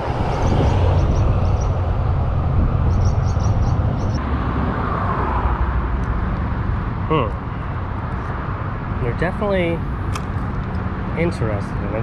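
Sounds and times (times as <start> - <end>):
highway traffic rumble: 0.0 - 12.0
vehicle passing: 0.0 - 12.0.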